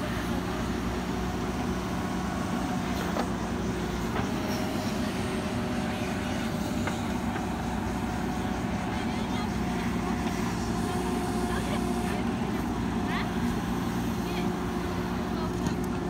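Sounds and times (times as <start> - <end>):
backhoe diesel engine running: 0.0 - 16.0.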